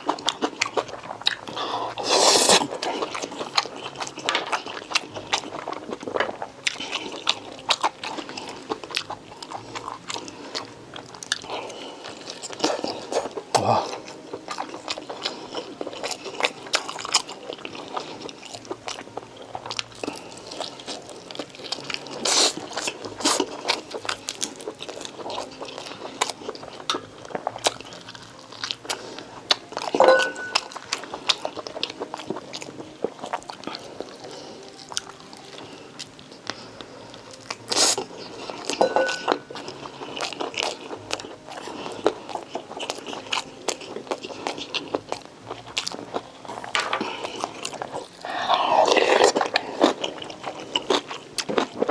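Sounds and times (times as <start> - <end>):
person chewing and crunching food: 0.0 - 51.9.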